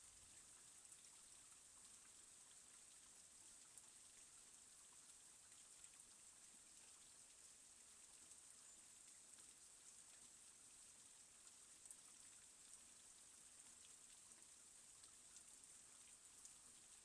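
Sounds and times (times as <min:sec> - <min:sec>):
faint rain falling: 0:00.0 - 0:17.0.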